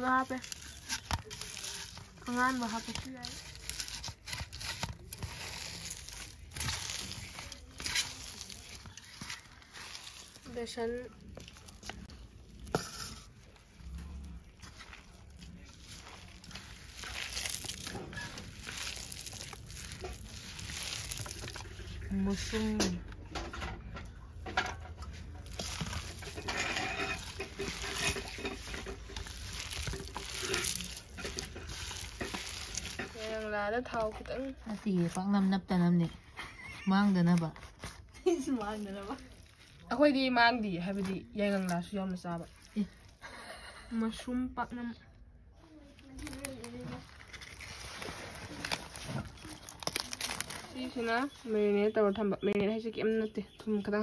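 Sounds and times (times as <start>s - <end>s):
hands mixing food in bowl: 0.0s - 54.0s.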